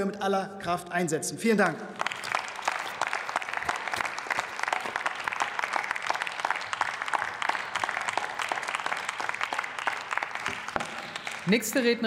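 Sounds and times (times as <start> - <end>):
crowd applauding: 1.9 - 12.0.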